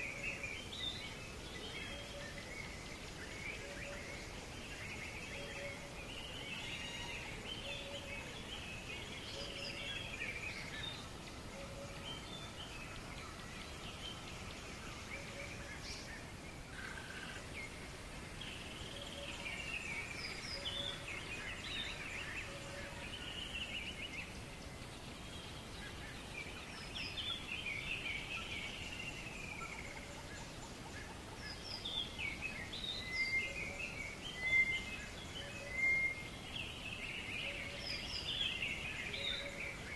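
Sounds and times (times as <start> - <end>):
birds chirping and twittering: 0.0 - 39.9
faint outdoor hiss: 0.0 - 39.9.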